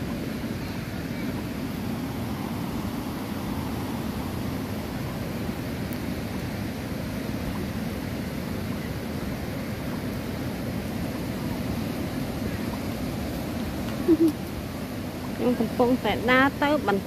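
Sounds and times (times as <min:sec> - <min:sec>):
river water rushing over rapids: 0:00.0 - 0:17.0.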